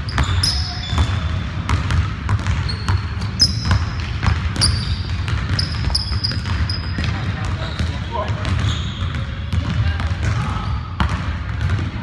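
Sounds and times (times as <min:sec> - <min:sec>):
sneakers squeaking on wooden floor: 0:00.0 - 0:09.6
basketball bouncing: 0:00.0 - 0:12.0.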